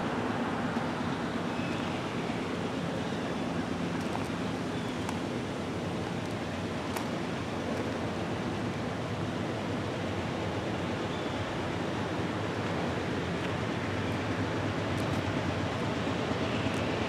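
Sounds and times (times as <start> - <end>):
distant freight train rumble: 0.0 - 17.0.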